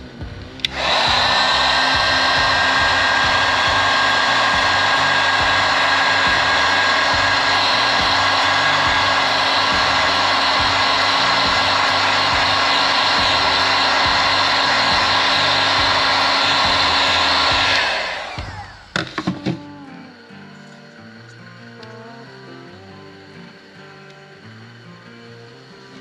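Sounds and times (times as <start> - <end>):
heat gun fan whine: 0.0 - 26.0.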